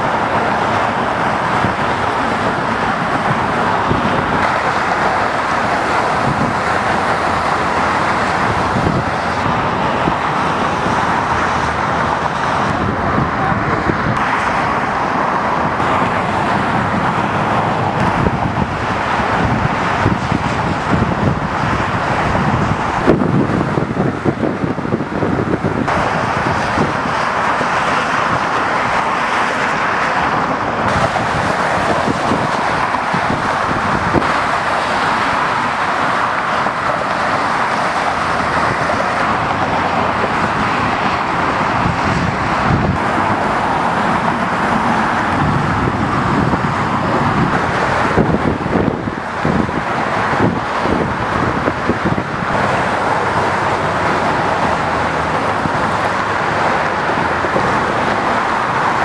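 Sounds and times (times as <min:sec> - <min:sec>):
cars passing on road: 0:00.0 - 0:59.0.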